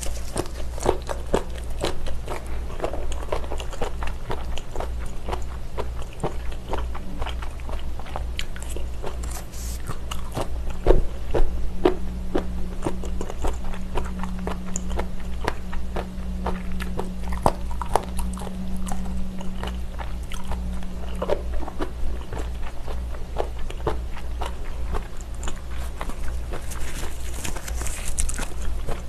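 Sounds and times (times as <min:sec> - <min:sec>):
chewing seaweed crunches: 0:00.0 - 0:29.0.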